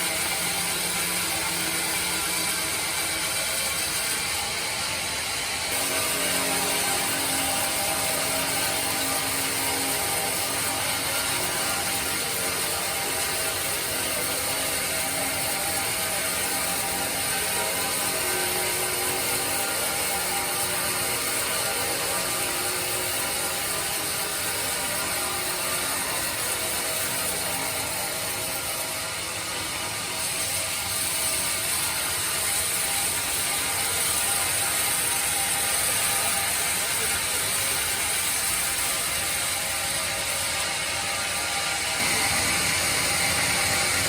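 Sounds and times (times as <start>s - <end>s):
band saw cutting wood: 0.0s - 44.0s.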